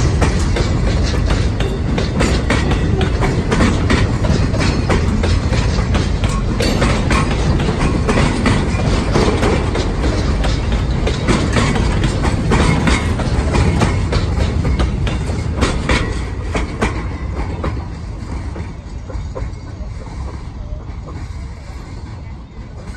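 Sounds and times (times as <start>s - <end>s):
train wheels clicking over rail joints: 0.0s - 22.9s.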